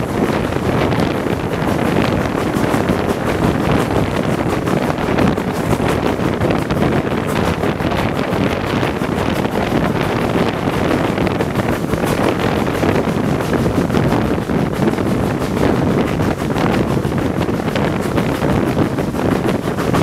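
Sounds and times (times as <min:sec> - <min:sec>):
train carriages rumbling on track: 0:00.0 - 0:20.0
wind buffeting microphone: 0:00.0 - 0:20.0.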